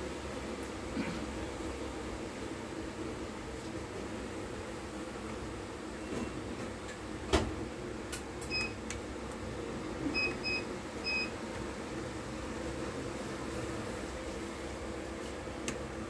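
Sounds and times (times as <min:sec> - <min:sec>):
steady room hum: 0:00.0 - 0:16.0.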